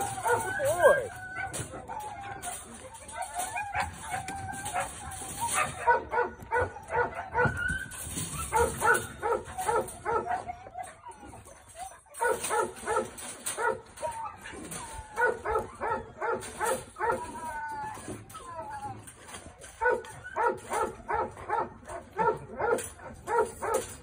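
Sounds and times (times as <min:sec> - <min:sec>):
dog yelping and whining: 0:00.0 - 0:24.0.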